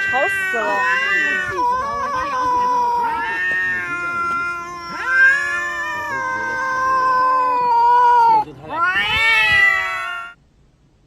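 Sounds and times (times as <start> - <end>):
cat yowling: 0.0 - 10.4.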